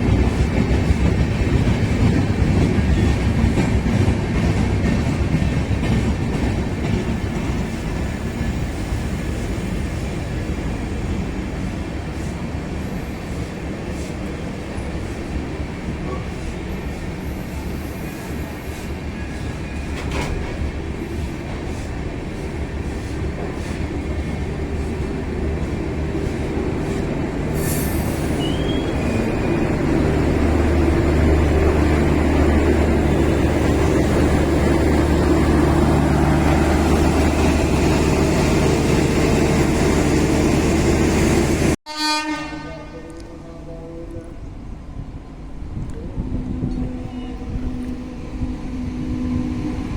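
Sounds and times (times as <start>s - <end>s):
train wheels rumbling on rails: 0.0s - 41.8s, 42.6s - 49.9s.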